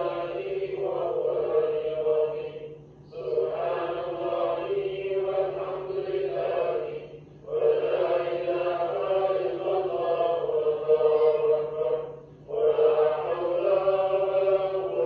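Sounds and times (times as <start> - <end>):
congregation chanting: 0.0 - 15.0
faint low hum: 0.0 - 15.0.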